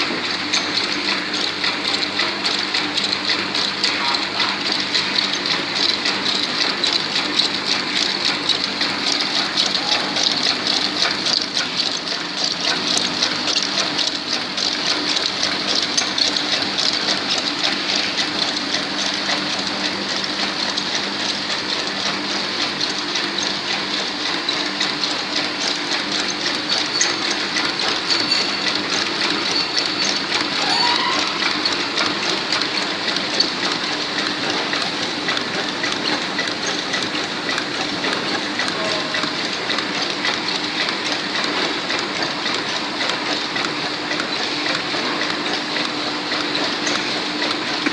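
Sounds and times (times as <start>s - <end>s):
printing machine rattling: 0.0s - 47.9s.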